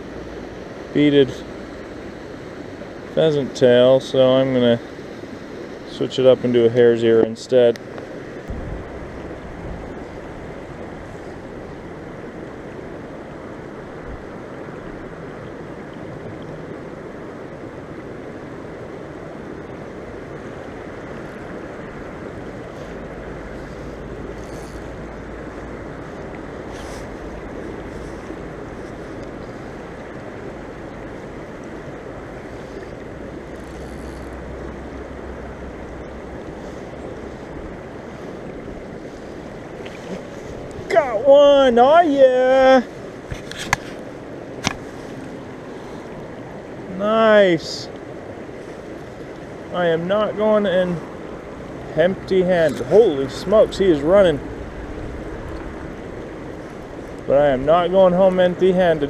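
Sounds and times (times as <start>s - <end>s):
water rushing over rocks: 0.0s - 59.0s
wind rumble on microphone: 6.8s - 41.7s, 42.7s - 59.0s.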